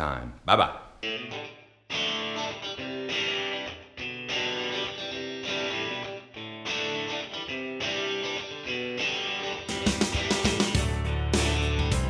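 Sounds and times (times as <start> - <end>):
guitar playing chords: 1.0 - 12.0.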